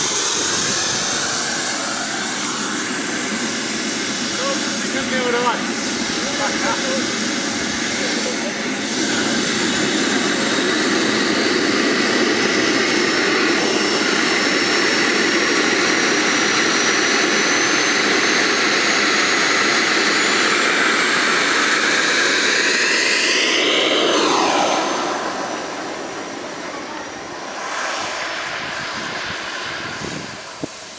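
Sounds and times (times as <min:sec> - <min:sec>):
model jet turbine whine: 0:00.0 - 0:30.9.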